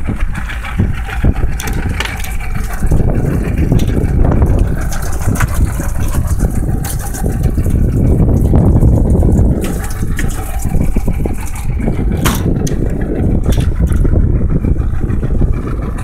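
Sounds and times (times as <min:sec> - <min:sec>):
water pouring into a well: 0:00.0 - 0:14.2
outboard motor idling: 0:00.0 - 0:16.0
wind on microphone: 0:00.0 - 0:16.0.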